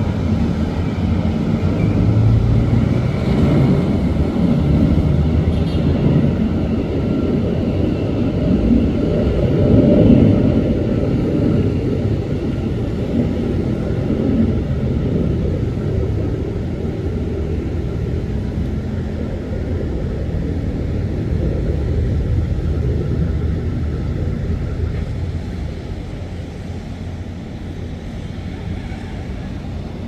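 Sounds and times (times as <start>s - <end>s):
jet engines at takeoff rumbling: 0.0s - 30.0s.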